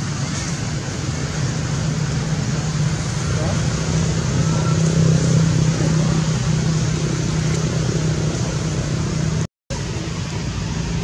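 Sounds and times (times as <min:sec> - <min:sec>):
motor engine drone: 0:00.0 - 0:11.0.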